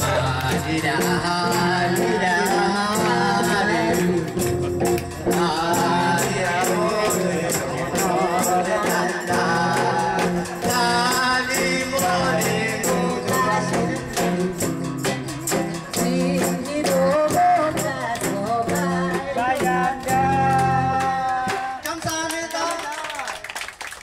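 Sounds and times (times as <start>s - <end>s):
acoustic guitar: 0.0s - 21.8s
hand percussion beat: 0.0s - 22.8s
man singing into microphone: 0.0s - 22.8s
people clapping along: 0.0s - 24.0s.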